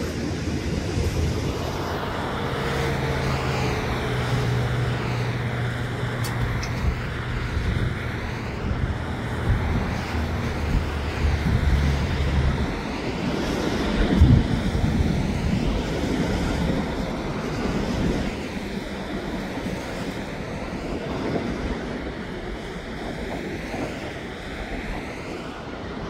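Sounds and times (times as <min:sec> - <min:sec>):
passing vehicle engine drone: 0:00.0 - 0:26.0.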